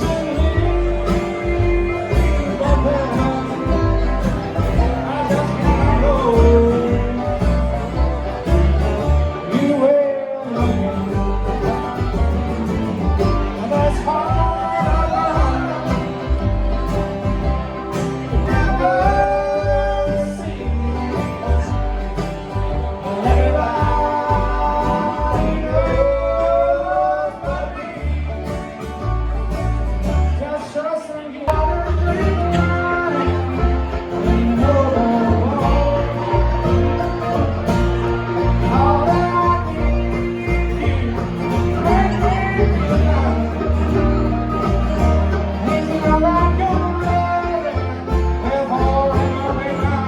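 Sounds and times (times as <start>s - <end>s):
pulsing bass line: 0.0s - 9.6s, 10.6s - 30.4s, 31.5s - 50.0s
person singing: 0.0s - 29.2s, 30.3s - 50.0s
plucked acoustic guitar: 0.0s - 50.0s.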